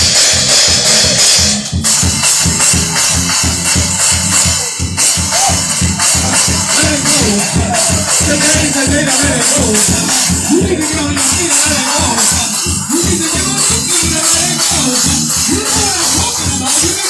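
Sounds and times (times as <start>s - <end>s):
drum kit fast beat: 0.0s - 17.0s.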